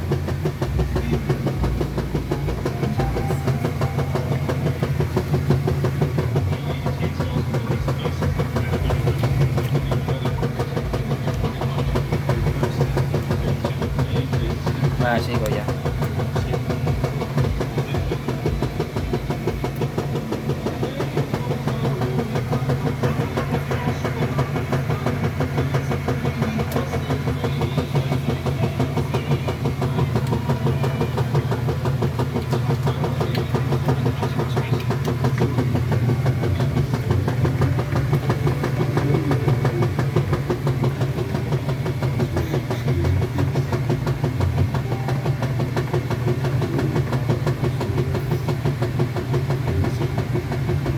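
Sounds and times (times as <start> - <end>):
washing machine motor hum: 0.0 - 50.9.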